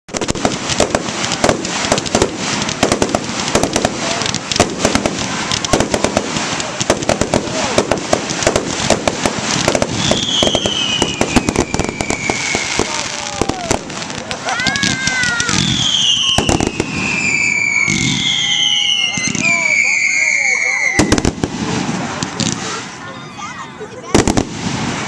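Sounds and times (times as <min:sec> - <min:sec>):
falling firework whistle: 0:00.1 - 0:21.7
fireworks bangs and crackles: 0:00.1 - 0:25.0.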